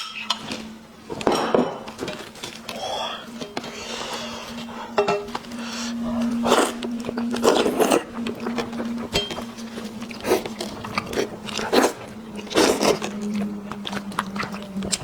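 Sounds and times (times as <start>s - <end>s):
faint steady hum: 0.0s - 15.0s
person chewing and crunching: 0.3s - 15.0s.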